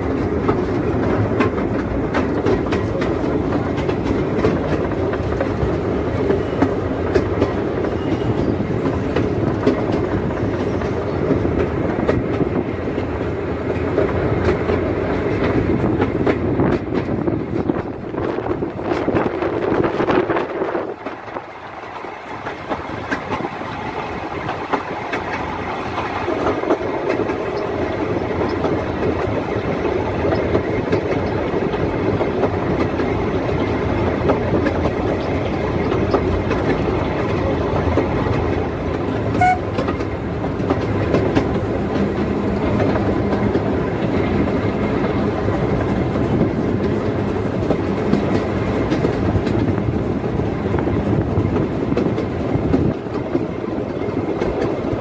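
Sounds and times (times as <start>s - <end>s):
steam locomotive running: 0.0s - 55.0s.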